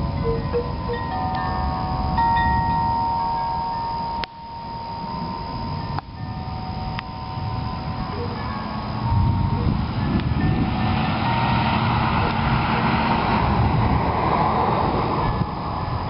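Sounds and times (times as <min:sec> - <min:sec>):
low rushing noise: 0:00.0 - 0:16.0
wind chimes ringing: 0:00.0 - 0:16.0.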